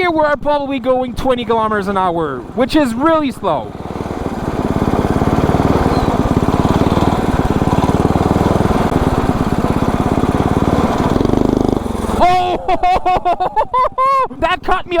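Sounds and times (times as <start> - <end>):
ride-on mower engine under load: 0.0 - 13.0.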